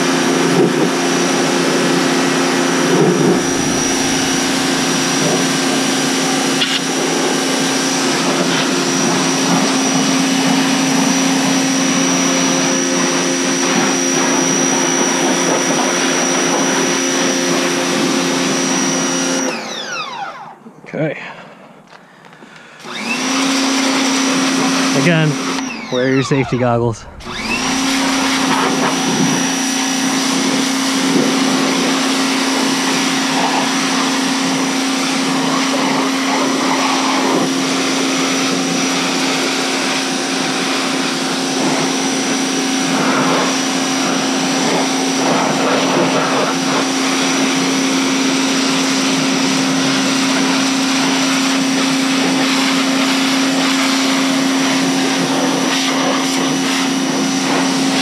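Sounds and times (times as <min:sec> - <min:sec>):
pressure washer motor whining: 0:00.0 - 0:20.7, 0:22.6 - 0:58.0.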